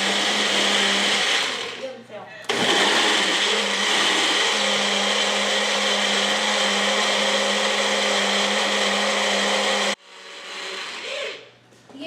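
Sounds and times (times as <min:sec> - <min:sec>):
electric blender running: 0:00.0 - 0:01.9, 0:02.5 - 0:11.5.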